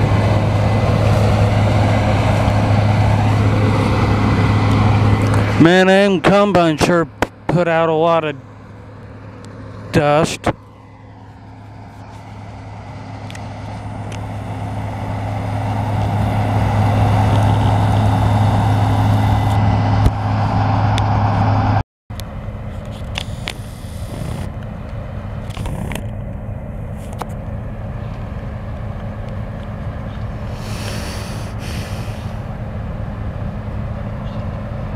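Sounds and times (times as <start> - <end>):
combine harvester engines humming: 0.0 - 34.9
combine machinery drone: 0.0 - 34.9.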